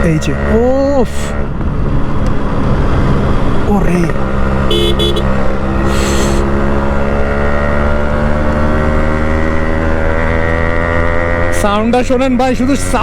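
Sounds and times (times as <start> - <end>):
two-stroke motorcycle engine running: 0.0 - 13.0.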